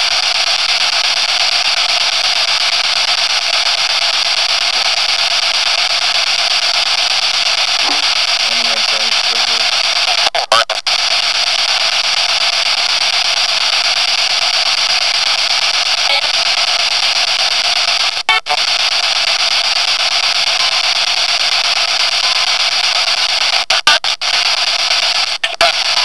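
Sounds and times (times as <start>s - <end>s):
electronic static hiss: 0.0s - 26.0s.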